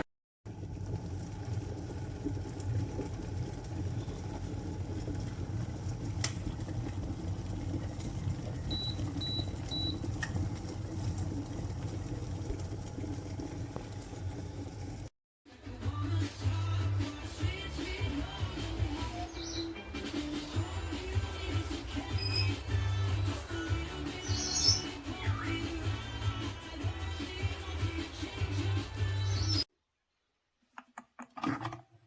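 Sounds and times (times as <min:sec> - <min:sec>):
electric kettle heating water: 0:00.5 - 0:15.1, 0:15.9 - 0:28.9, 0:30.8 - 0:32.0.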